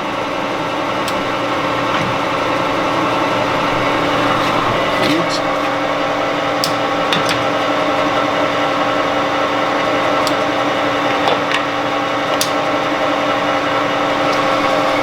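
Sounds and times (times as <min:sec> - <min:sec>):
lathe whining: 0:00.0 - 0:15.0.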